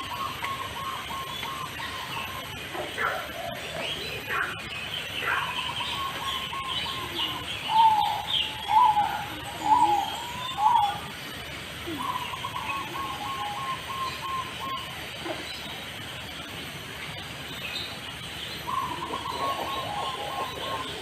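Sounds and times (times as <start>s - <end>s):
stuttering bird trill: 0.0s - 16.3s, 17.0s - 21.0s
birds chirping: 0.0s - 21.0s
loud bird calls: 0.0s - 21.0s.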